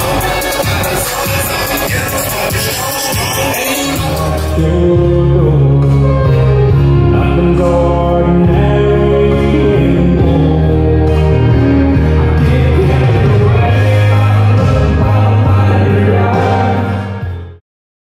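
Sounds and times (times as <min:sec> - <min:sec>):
person singing with instrumental backing: 0:00.0 - 0:17.6.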